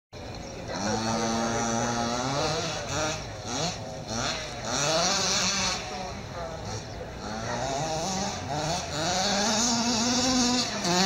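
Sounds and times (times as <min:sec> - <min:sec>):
small two-stroke engine revving: 0:00.2 - 0:11.0.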